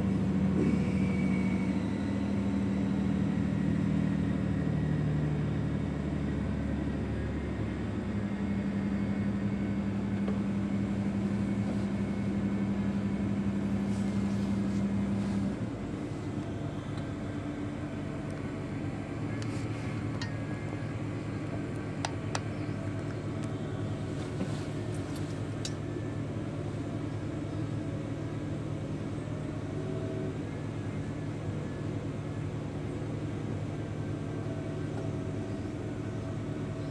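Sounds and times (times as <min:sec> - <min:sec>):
heavy machinery engine humming: 0:00.0 - 0:36.9.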